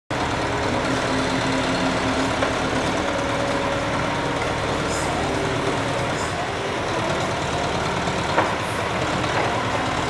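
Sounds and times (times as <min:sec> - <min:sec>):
diesel engine running: 0:00.1 - 0:10.0.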